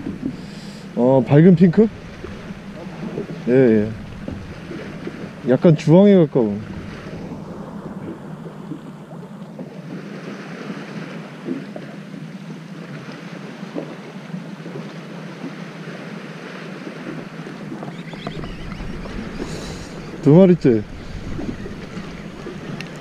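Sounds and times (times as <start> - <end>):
boat engine humming: 0.0 - 23.0
sea noise: 0.0 - 23.0
wind: 0.0 - 23.0.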